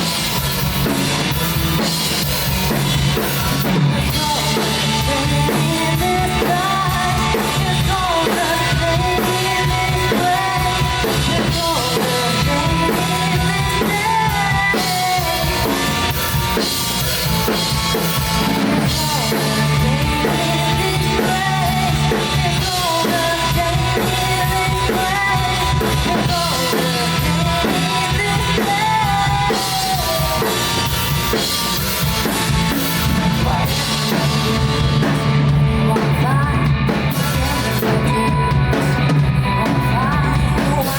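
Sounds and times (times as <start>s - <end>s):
drum kit beat: 0.0s - 40.9s.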